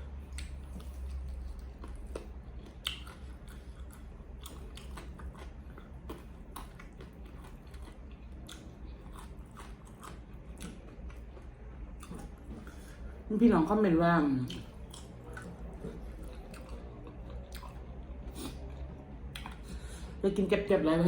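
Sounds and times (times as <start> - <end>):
person chewing food: 0.0 - 13.3, 14.4 - 20.2.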